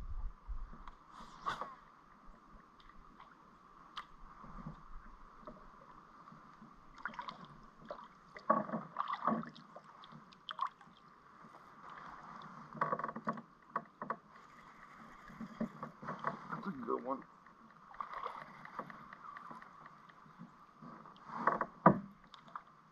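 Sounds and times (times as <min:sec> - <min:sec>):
water sloshing against kayak hull: 0:01.3 - 0:22.9.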